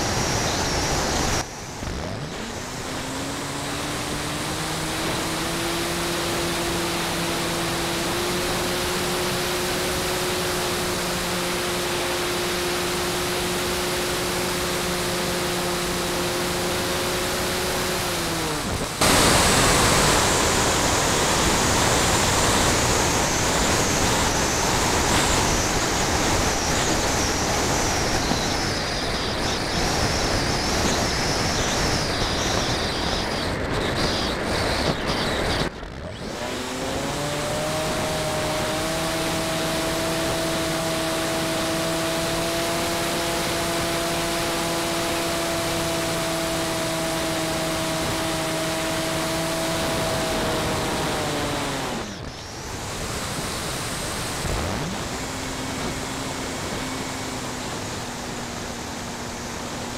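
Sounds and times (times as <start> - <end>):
model plane motor humming: 0.0 - 59.9.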